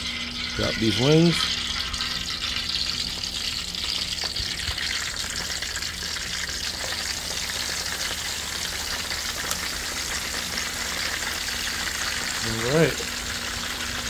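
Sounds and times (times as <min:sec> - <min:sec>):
grease sizzling in deep fryer: 0:00.0 - 0:14.0.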